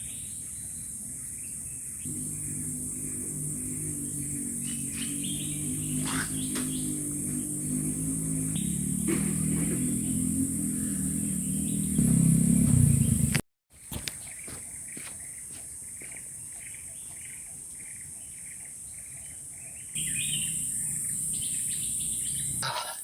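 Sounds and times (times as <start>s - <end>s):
insect drone: 0.0s - 23.0s.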